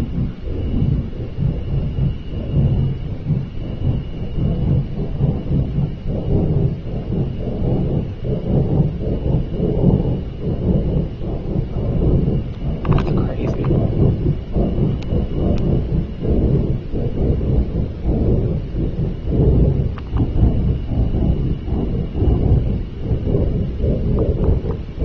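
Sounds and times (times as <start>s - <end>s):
low rumbling roar from sky: 0.0s - 25.0s.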